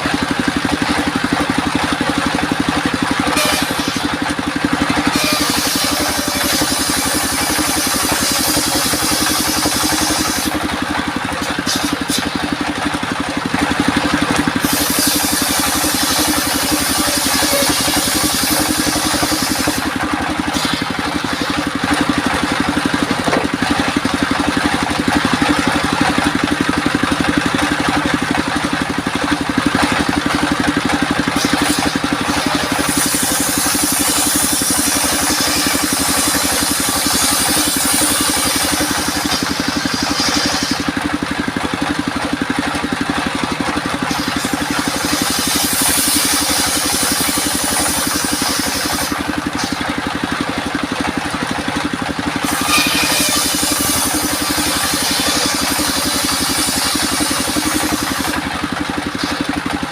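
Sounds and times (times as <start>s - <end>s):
saw blade high-pitched whine: 0.0s - 13.0s, 13.9s - 41.2s, 43.2s - 51.0s, 52.1s - 59.6s
sawmill engine beating: 0.0s - 59.9s.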